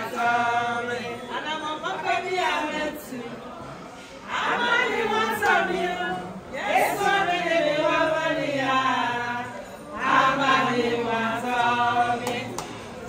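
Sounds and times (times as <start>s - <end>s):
group singing in unison: 0.0s - 13.0s.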